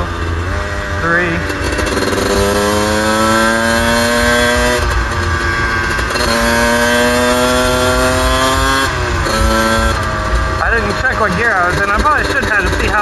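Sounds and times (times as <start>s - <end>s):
two-stroke engine accelerating: 0.0s - 13.0s.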